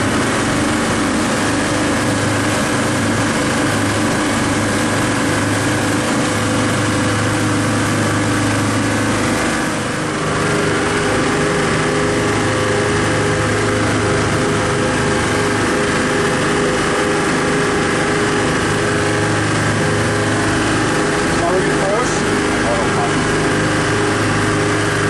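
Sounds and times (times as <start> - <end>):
boat engines droning: 0.0 - 25.0.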